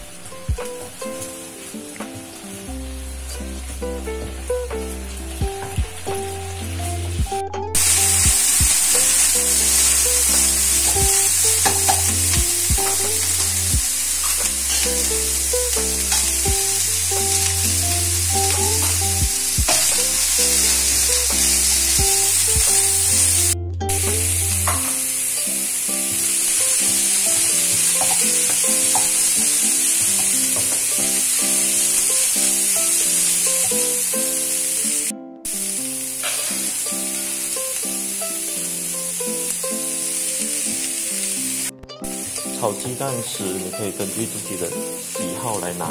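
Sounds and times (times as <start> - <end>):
background music: 0.0 - 45.9
meat and vegetables sizzling: 0.0 - 45.9.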